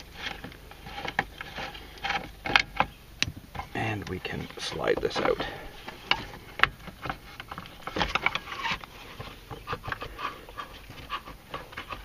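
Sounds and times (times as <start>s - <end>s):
plastic and metal clicks and scrapes: 0.0s - 12.0s.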